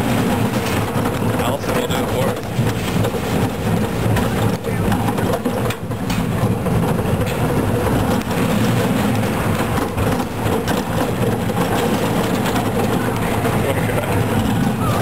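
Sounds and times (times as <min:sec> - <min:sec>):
roller coaster track clacks: 0:00.0 - 0:15.0
roller coaster wheels rumbling: 0:00.0 - 0:15.0.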